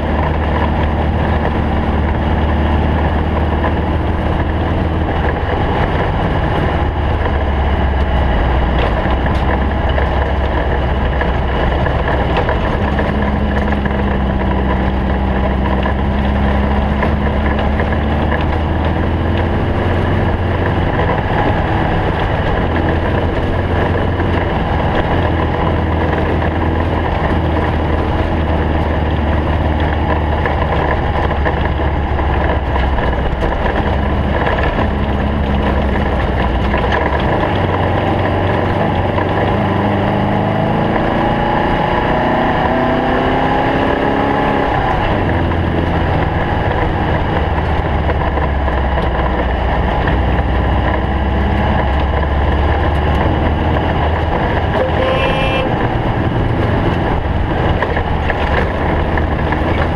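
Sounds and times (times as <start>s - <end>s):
race car engine rumbling: 0.0s - 59.9s.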